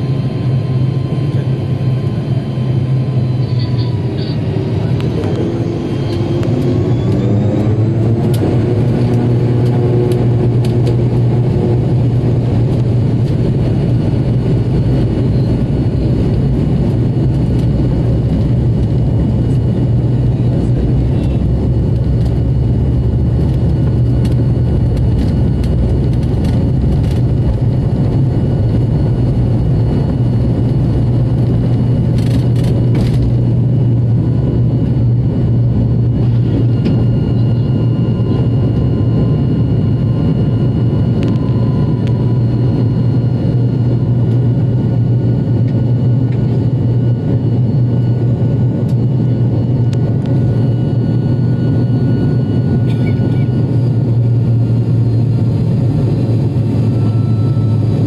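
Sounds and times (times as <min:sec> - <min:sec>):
turboprop engines droning: 0:00.0 - 0:58.0.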